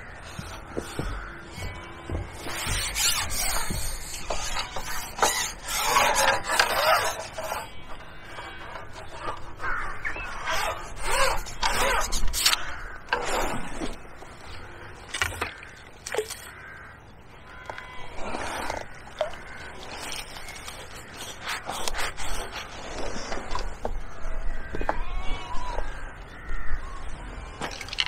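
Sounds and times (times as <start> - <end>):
harsh bird calls: 0.0 - 27.7.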